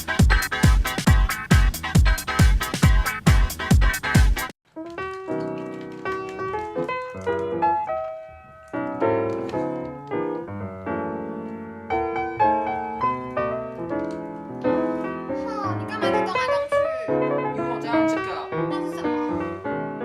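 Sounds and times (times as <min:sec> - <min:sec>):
piano melody over chords: 0:00.0 - 0:20.0.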